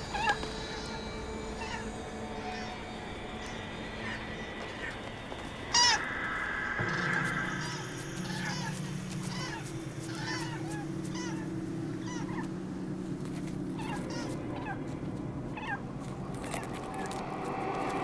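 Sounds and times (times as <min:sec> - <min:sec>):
birds chirping: 0:00.0 - 0:18.0
low steady hum: 0:00.0 - 0:18.0.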